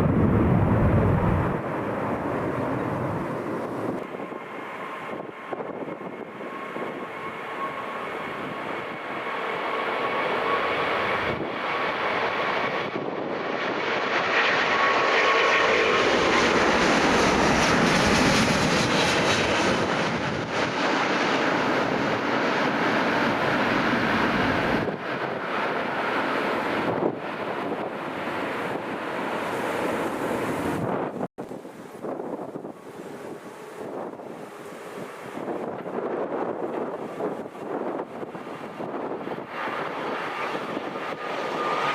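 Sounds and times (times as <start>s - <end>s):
airliner engines passing: 0.0s - 41.9s.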